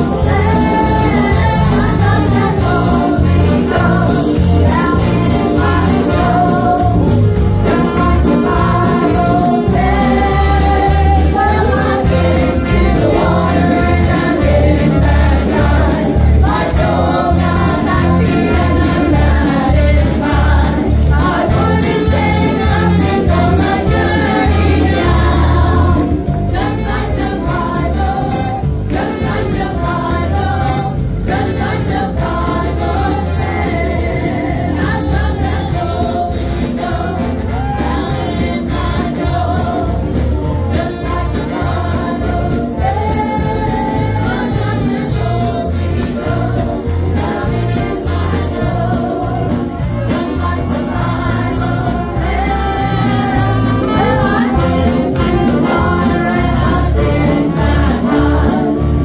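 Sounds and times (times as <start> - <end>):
band with bass and drums: 0.0 - 59.0
congregation singing: 0.0 - 59.0.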